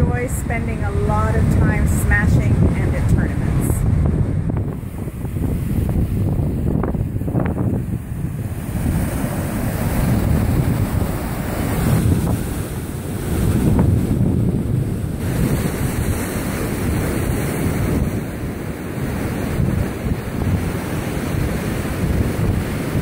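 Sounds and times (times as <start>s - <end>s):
surf breaking on sandy beach: 0.0s - 23.0s
wind buffeting microphone: 0.0s - 23.0s.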